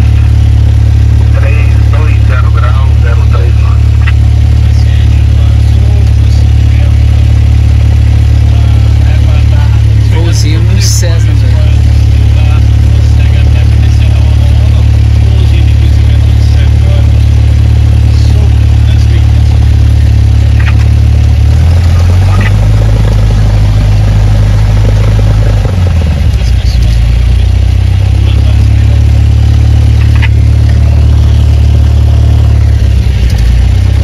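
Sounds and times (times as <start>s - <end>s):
propeller plane engine drone: 0.0s - 34.0s.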